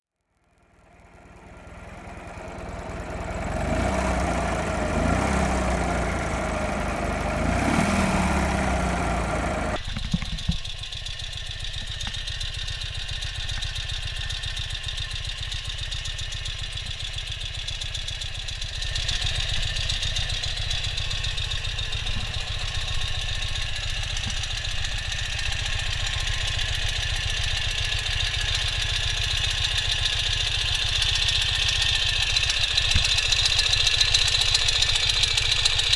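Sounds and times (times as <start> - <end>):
motorcycle engine revving: 0.6 - 9.8, 11.9 - 35.9.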